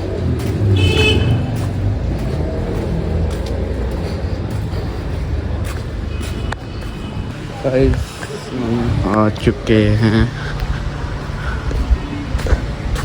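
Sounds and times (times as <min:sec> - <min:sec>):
vehicle running with road noise: 0:00.0 - 0:13.0.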